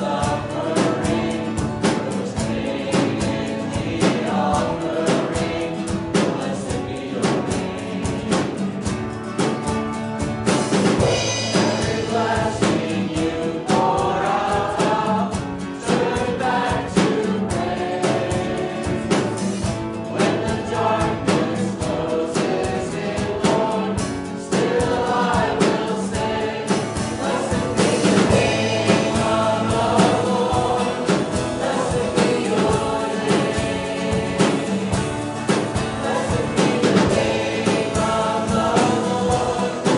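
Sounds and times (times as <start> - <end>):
congregation singing: 0.0 - 39.9
instrumental accompaniment with beat: 0.0 - 39.9.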